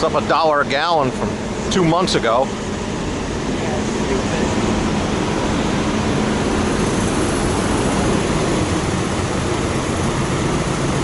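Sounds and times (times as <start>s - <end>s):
diesel trucks idling: 0.0s - 11.0s.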